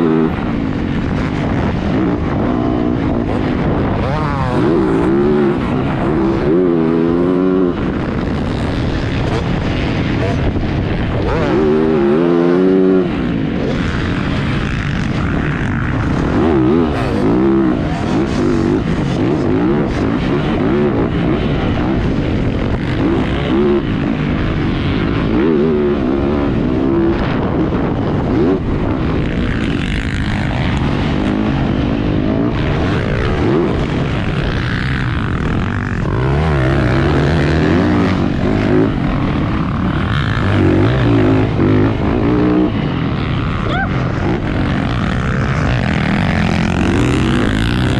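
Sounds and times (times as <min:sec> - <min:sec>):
dirt bike engine revving: 0:00.0 - 0:47.9
wind on microphone: 0:00.0 - 0:47.9.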